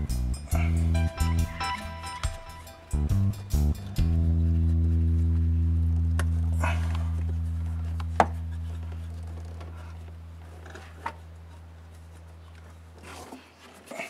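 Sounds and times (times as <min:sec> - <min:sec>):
low bass note of music: 0:00.0 - 0:11.3.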